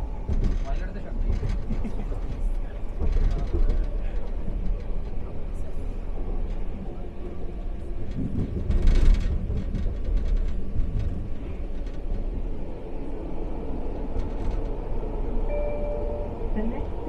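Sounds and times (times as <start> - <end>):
train rumbling on guideway: 0.0 - 17.0.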